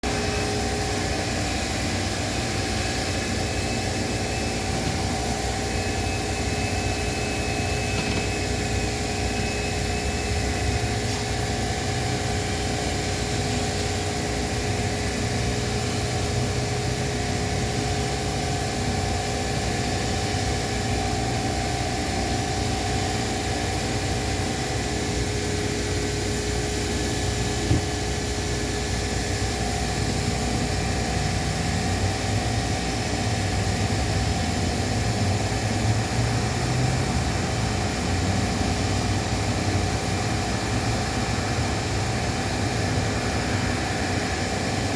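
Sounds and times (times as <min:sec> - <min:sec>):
car wash motors and blowers: 0:00.0 - 0:44.9.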